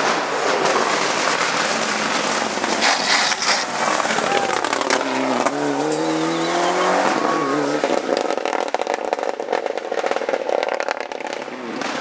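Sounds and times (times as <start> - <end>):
dense rapid crackling: 0.0 - 12.0
rally car engine accelerating: 0.1 - 12.0.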